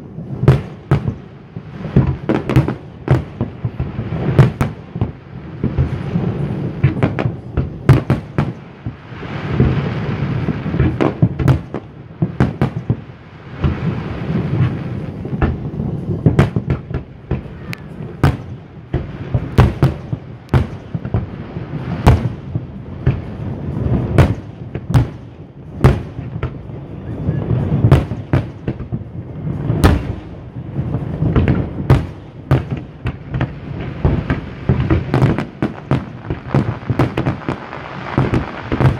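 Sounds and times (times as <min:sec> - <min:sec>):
continuous low rumble: 0:00.0 - 0:38.9
fireworks bursting with sharp bangs: 0:00.0 - 0:38.9.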